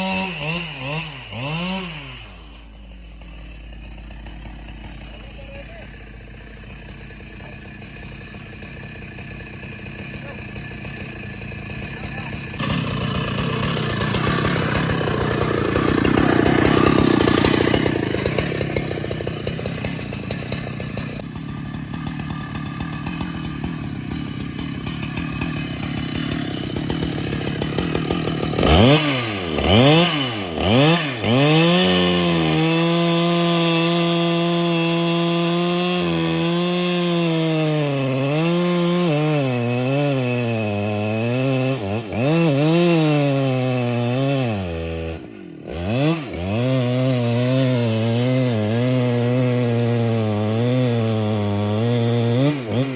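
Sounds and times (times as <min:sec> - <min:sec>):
chainsaw cutting wood: 0:00.0 - 0:52.9
chainsaw revving: 0:00.0 - 0:52.9.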